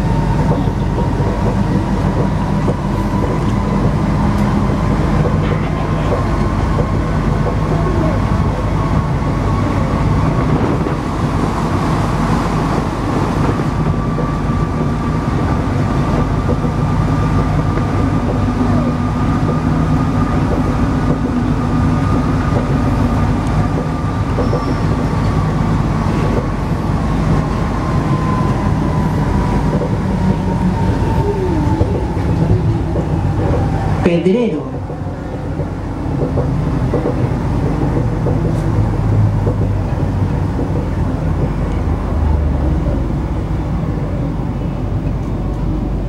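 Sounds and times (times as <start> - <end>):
traction drive whine: 0.0 - 44.0
train low rumble: 0.0 - 46.0.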